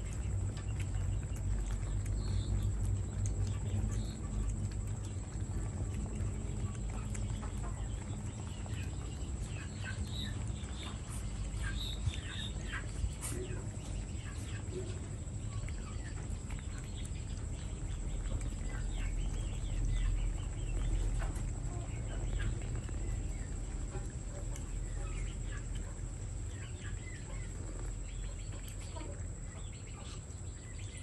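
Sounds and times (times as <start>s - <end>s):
puppies lapping milk: 0.0s - 31.0s
steady low hum: 0.0s - 31.0s.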